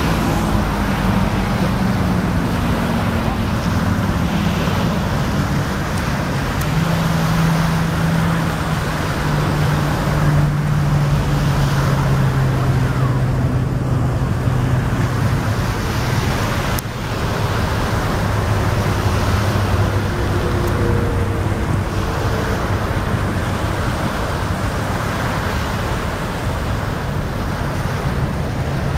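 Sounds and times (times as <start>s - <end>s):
low engine hum: 0.0s - 28.9s
steady rushing noise: 0.0s - 28.9s.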